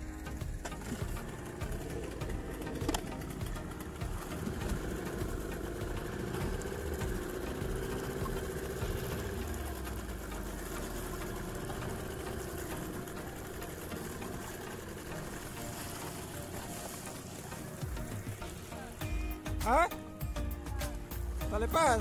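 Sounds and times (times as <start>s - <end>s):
boat engine running: 0.0s - 22.0s
wind and water hiss: 0.0s - 22.0s.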